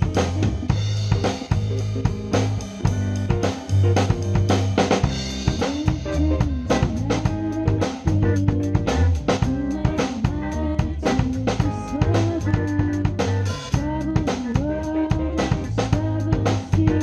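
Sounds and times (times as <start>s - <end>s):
drum kit beat: 0.0s - 17.0s
live funk rock band: 0.0s - 17.0s.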